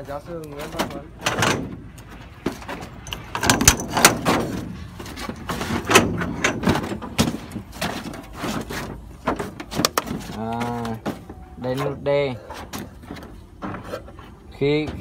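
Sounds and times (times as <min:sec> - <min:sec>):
metal knocks and clanks: 0:00.6 - 0:15.0.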